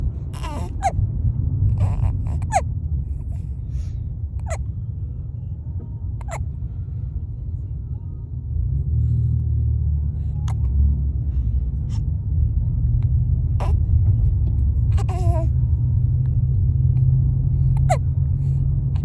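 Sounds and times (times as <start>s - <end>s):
moving car rumble: 0.0s - 19.0s.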